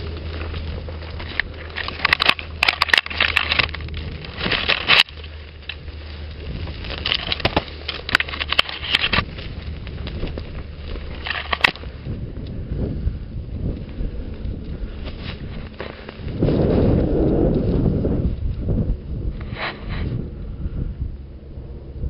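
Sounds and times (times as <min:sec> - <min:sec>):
steady low rumble: 0:00.0 - 0:22.0
twigs crackling against camera: 0:00.0 - 0:22.0.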